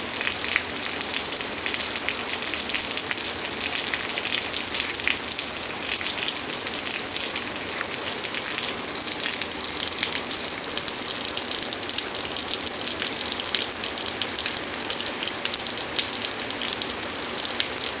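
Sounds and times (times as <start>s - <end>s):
raindrops hitting close by: 0.0s - 18.0s.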